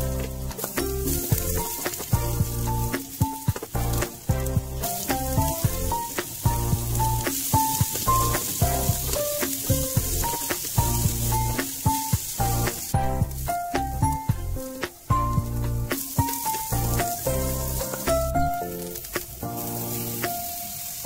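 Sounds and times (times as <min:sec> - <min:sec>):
background music with beat: 0:00.0 - 0:20.8
food sizzling in oil: 0:00.0 - 0:21.0.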